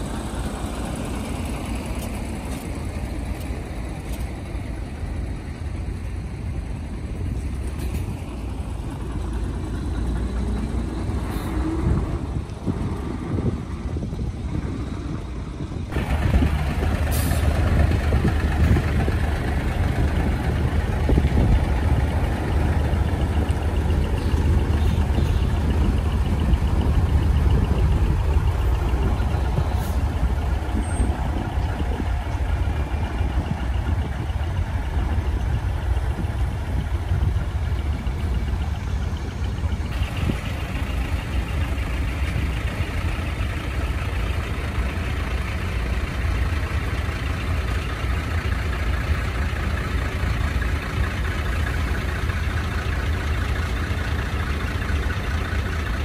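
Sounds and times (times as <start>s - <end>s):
diesel truck engines: 0.0s - 56.0s.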